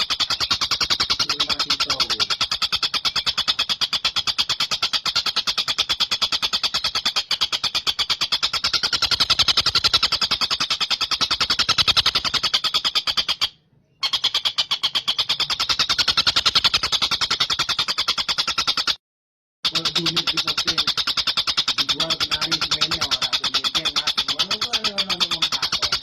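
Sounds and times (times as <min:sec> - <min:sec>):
kingfisher rattling call: 0:00.0 - 0:19.0, 0:19.6 - 0:26.0.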